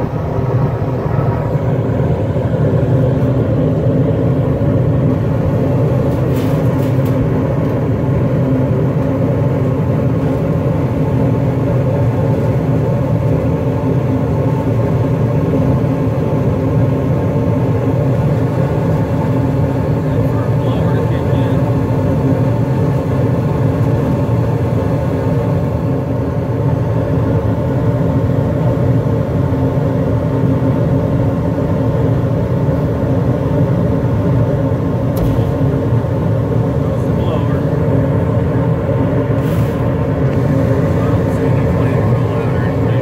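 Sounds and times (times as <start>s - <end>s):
heating unit rumble and hum: 0.0s - 43.0s.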